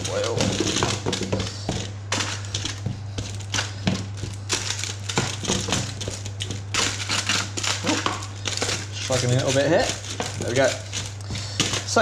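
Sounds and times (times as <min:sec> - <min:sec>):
baking paper crinkling: 0:00.0 - 0:12.0
steady low hum: 0:00.0 - 0:12.0
vegetables knocking on tray: 0:00.0 - 0:12.0.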